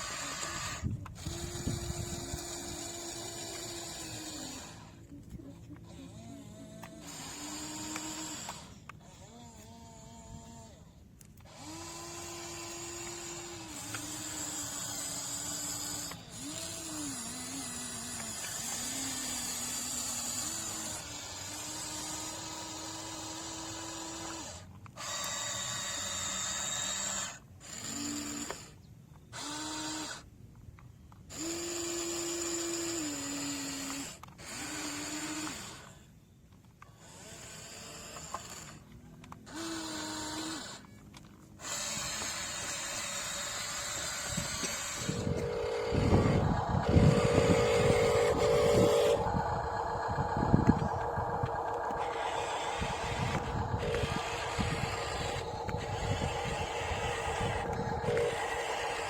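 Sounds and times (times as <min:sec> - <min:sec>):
electric motors whining: 0:00.0 - 0:30.3, 0:31.3 - 0:36.1, 0:36.9 - 0:59.0.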